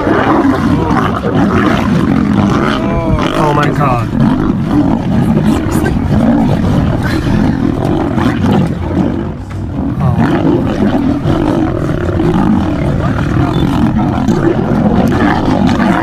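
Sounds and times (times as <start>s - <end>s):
lions roaring in a fight: 0.0s - 16.0s.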